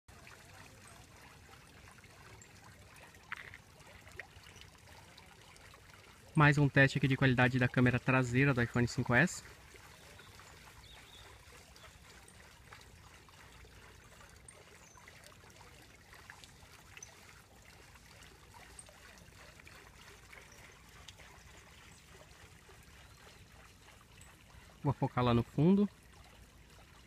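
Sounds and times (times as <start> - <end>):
water drips: 0.1 - 27.0
water trickling and splashing: 0.1 - 27.0.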